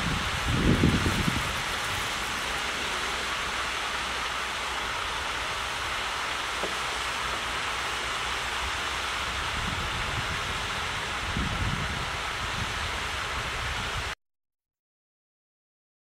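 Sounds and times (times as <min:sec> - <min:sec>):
flowing water rushing: 0:00.0 - 0:14.2.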